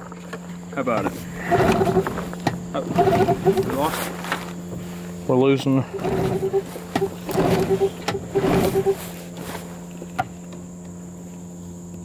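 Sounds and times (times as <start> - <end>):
outboard motor turning over: 0.0 - 11.0.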